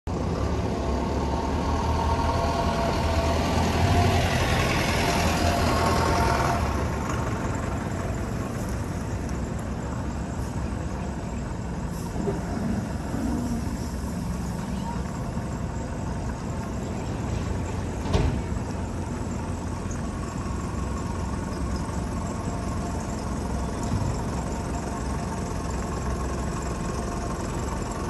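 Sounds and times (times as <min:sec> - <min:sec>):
diesel truck driving past: 0:00.1 - 0:28.0.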